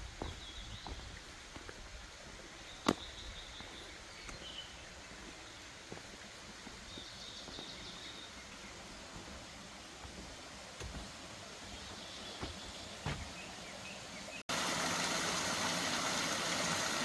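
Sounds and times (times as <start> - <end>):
small birds calling: 0.0 - 1.4, 2.2 - 14.5.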